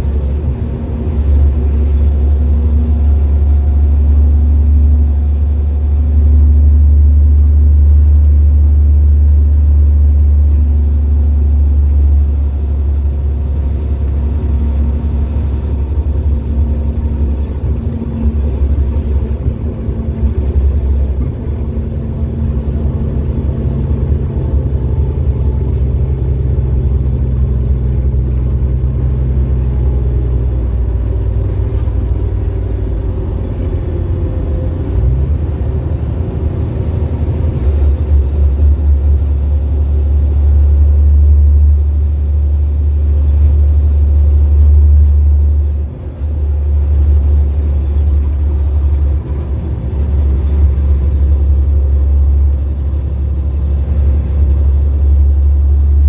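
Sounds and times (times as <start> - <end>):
deep diesel engine: 0.0 - 56.0
road rumble: 0.0 - 56.0.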